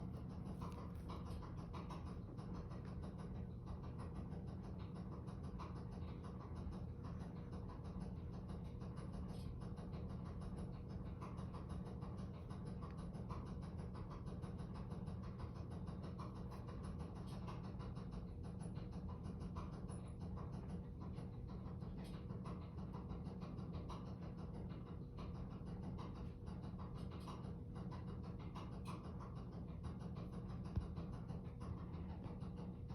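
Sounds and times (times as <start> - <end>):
washing machine running: 0.0 - 32.9.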